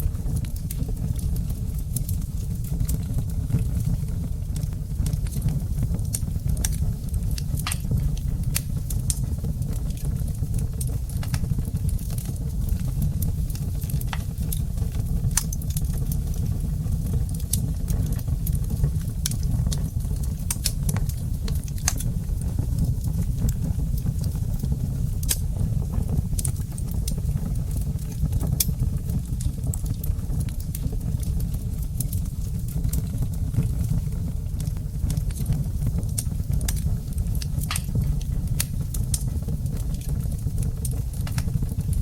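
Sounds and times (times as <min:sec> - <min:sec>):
fire crackling and popping: 0:00.0 - 0:42.0
low rumble of fire: 0:00.0 - 0:42.0.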